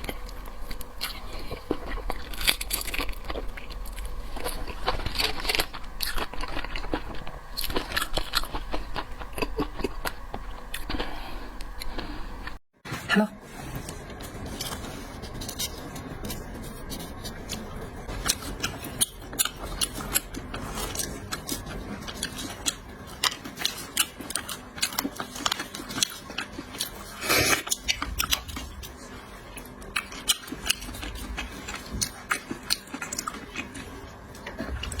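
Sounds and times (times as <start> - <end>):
shells cracking and chewing: 0.0 - 12.6, 17.2 - 35.0.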